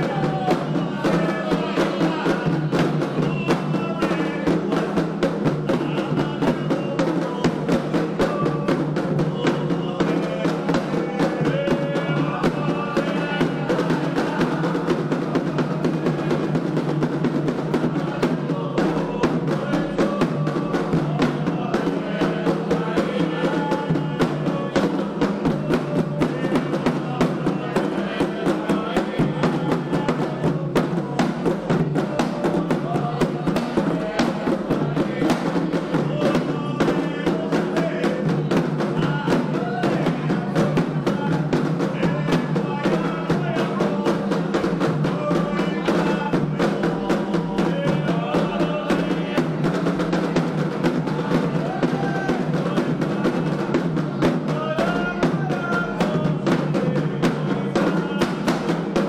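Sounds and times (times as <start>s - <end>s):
hand drums playing rhythm: 0.0s - 59.0s
voices singing a chant: 0.0s - 59.0s.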